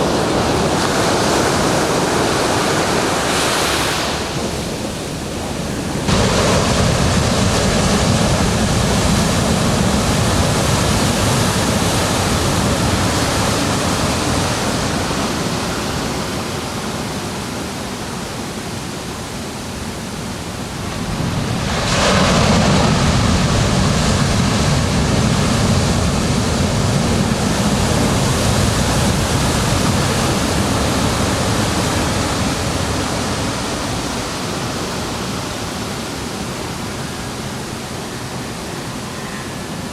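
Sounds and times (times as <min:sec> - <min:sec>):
ocean waves crashing on beach: 0:00.0 - 0:39.9.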